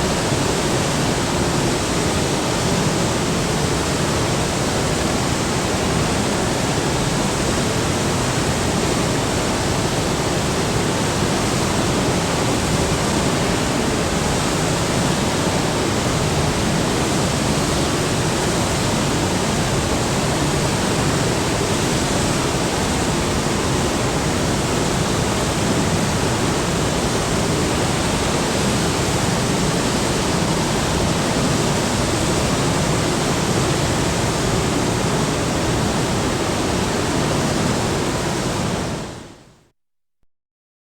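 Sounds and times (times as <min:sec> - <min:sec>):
waterfall rushing: 0:00.0 - 0:39.2.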